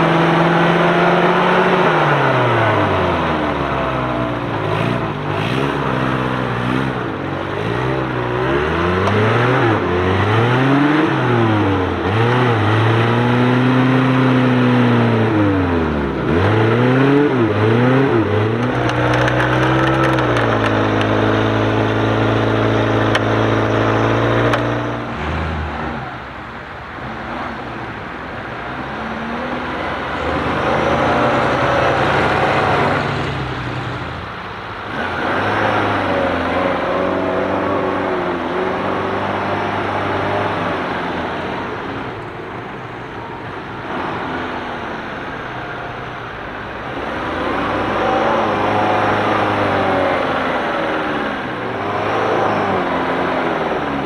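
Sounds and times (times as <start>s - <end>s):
off-road vehicle engine revving: 0.0s - 42.7s, 43.5s - 54.0s.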